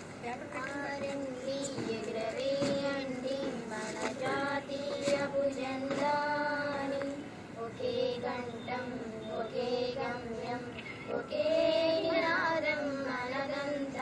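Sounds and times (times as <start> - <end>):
girls and women singing in unison: 0.2 - 14.0.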